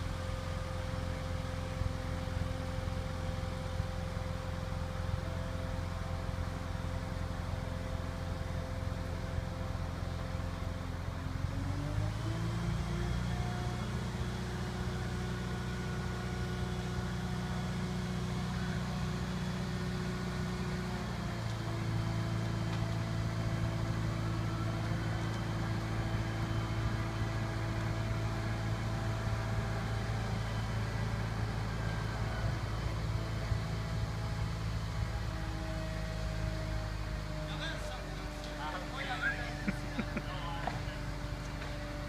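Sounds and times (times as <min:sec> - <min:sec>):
crane engine running: 0:00.0 - 0:42.0.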